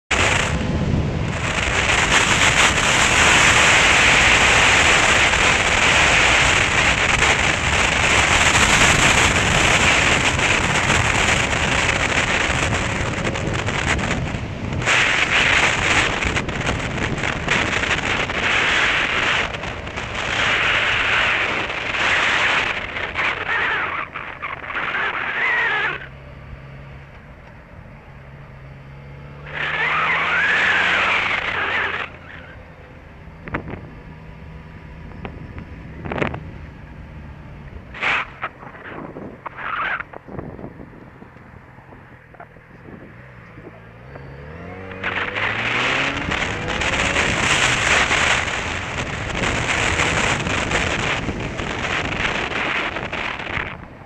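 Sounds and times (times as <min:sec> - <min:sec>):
motorcycle engine: 0:00.0 - 0:54.0
wind rushing over microphone: 0:00.1 - 0:26.9, 0:27.6 - 0:54.0.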